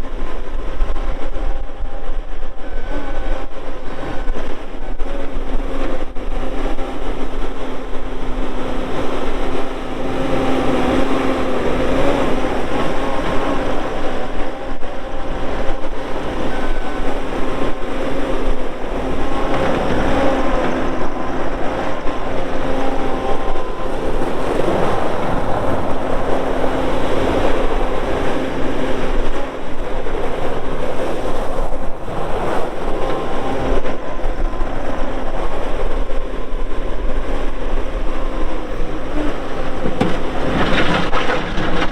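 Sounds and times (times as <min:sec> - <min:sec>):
diesel engine running with whine: 0:00.0 - 0:41.9.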